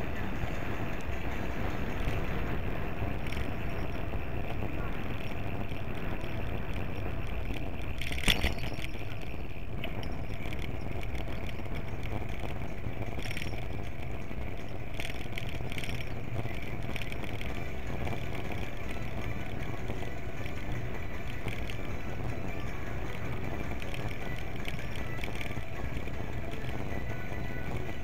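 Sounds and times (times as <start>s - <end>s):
bicycle rolling on pavement: 0.0s - 28.0s
wind noise: 0.0s - 28.0s.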